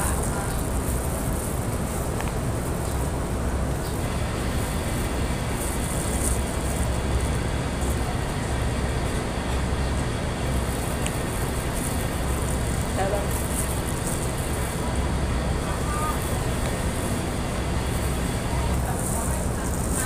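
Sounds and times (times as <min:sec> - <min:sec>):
constant low rumble: 0:00.0 - 0:20.0.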